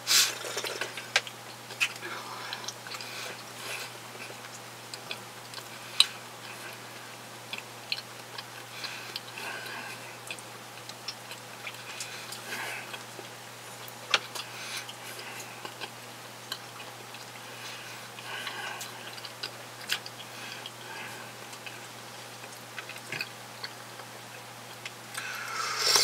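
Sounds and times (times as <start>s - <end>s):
chewing with mouth closed: 0.4s - 25.8s.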